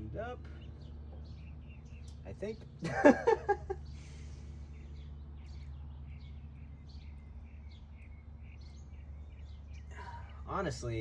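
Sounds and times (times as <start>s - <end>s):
low background hum: 0.0s - 11.0s
small birds chirping: 0.0s - 11.0s.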